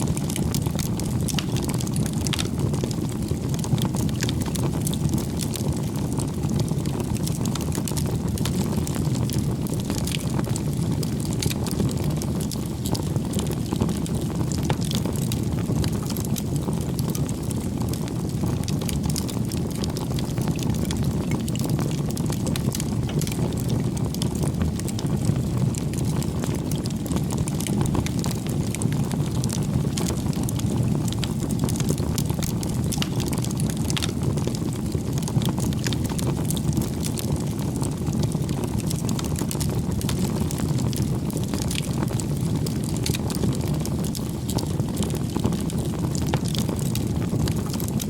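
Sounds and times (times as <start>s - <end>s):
burning wood crackles and pops: 0.0s - 48.0s
low rumble of flame: 0.0s - 48.0s.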